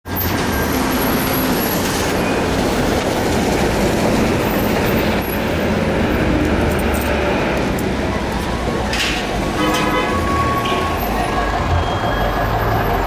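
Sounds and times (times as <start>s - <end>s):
street traffic noise: 0.0s - 13.0s
diesel engine rumbling: 0.1s - 13.0s.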